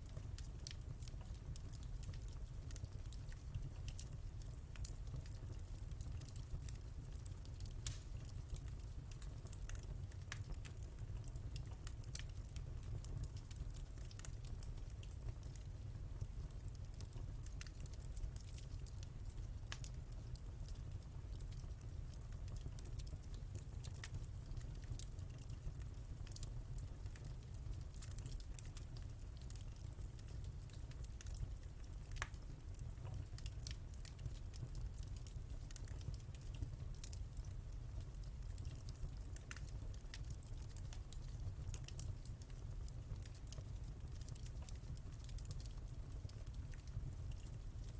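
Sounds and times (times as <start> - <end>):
fire crackling and popping: 0.0 - 47.9
low steady fire rumble: 0.0 - 47.9.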